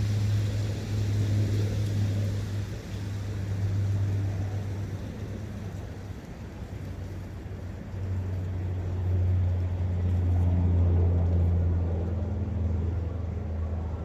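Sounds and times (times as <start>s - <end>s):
distant vehicle engine rumble: 0.0s - 14.0s.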